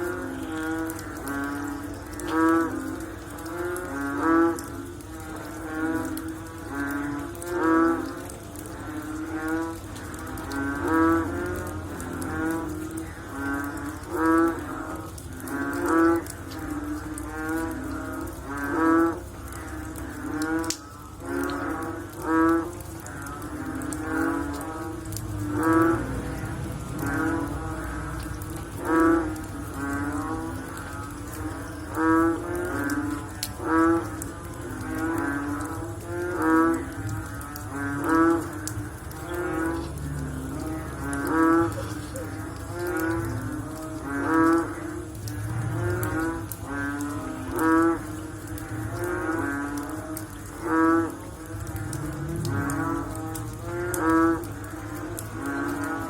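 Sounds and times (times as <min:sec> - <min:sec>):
frogs calling: 0:00.0 - 0:56.0.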